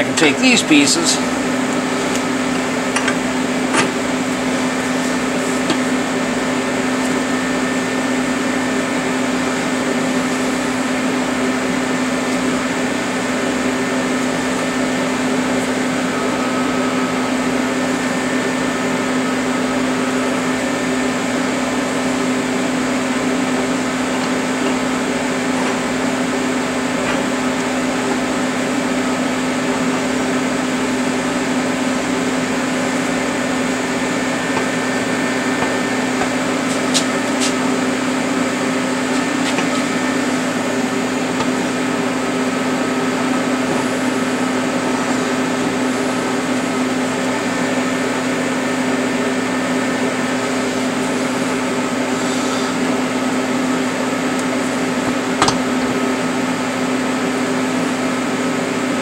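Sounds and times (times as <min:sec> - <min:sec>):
electric motor and fan humming: 0:00.0 - 0:59.0.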